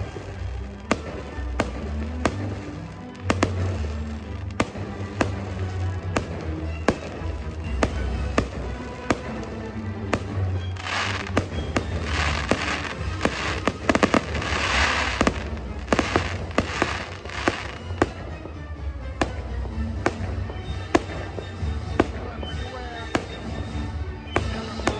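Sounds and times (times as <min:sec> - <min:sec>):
fireworks bangs and pops: 0:00.0 - 0:24.9
fireworks crackling: 0:00.0 - 0:24.9.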